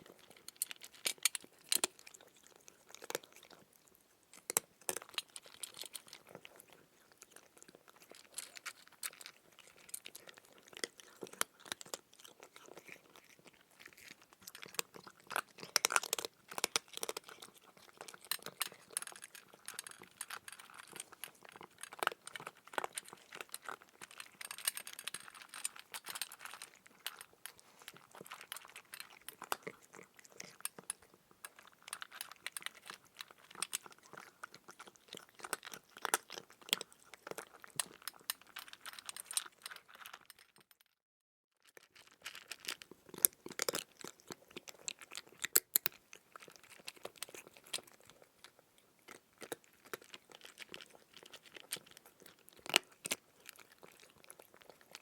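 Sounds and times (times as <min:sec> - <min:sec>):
cat crunching food: 0:00.0 - 0:40.8, 0:41.6 - 0:55.0.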